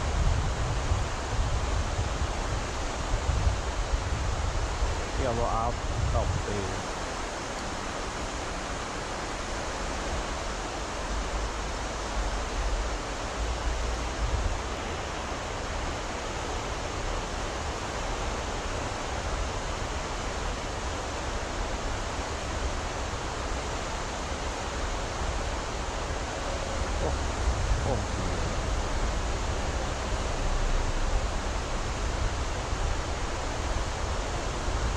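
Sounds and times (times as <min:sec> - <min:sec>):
river current rushing: 0:00.0 - 0:34.9.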